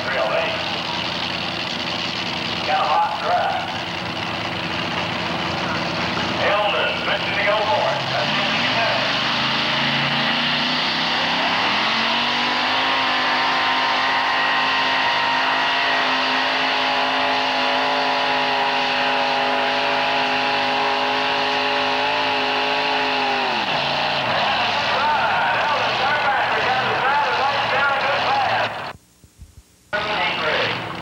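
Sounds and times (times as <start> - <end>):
tractor racing engine at full throttle: 0.0 - 29.0, 30.0 - 31.0.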